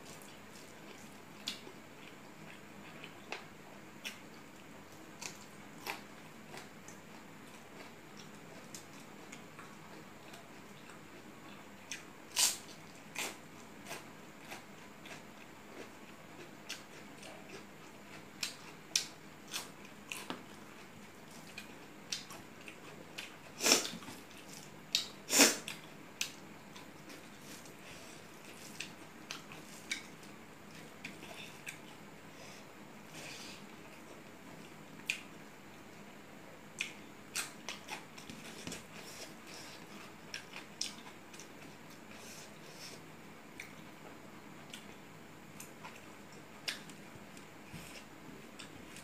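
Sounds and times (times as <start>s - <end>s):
person chewing food: 0.0s - 32.0s, 33.1s - 35.4s, 36.8s - 45.0s, 45.6s - 49.0s.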